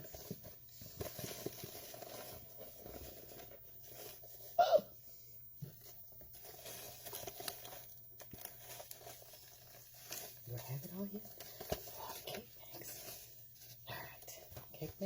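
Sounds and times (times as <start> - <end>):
plastic bag crinkling: 0.0 - 4.6, 5.7 - 15.0.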